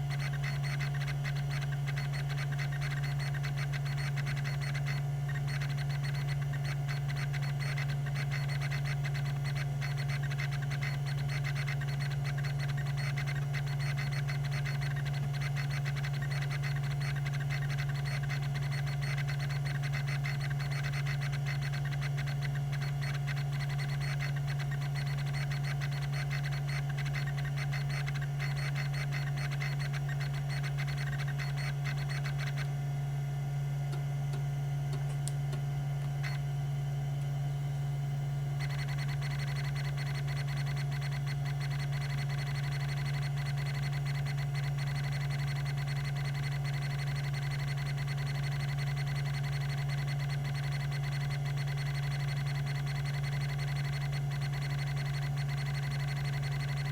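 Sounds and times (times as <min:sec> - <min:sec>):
hard drive head ticking steps: 0:00.0 - 0:37.4, 0:38.0 - 0:56.9
hard drive spinning hum: 0:00.0 - 0:56.9.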